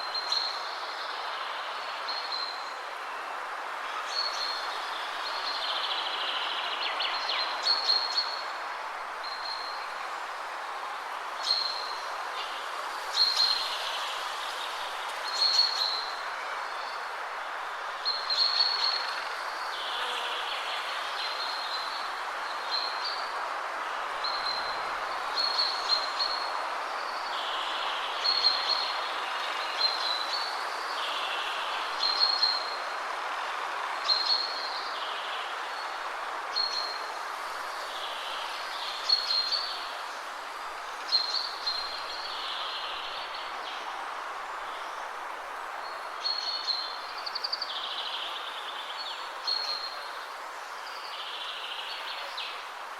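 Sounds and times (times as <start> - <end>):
wind rushing through trees: 0.0 - 52.9.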